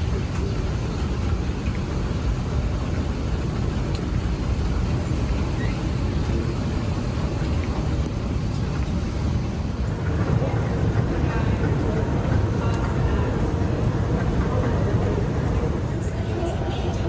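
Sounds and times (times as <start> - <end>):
moving vehicle rumble: 0.0 - 16.3.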